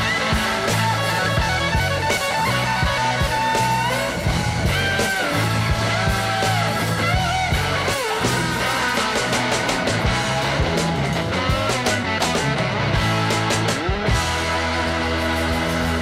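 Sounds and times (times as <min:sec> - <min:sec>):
rock music with guitar: 0:00.0 - 0:16.0.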